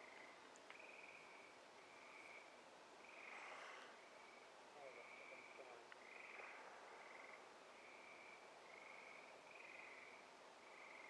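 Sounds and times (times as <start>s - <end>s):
frogs trilling: 0.0s - 11.0s.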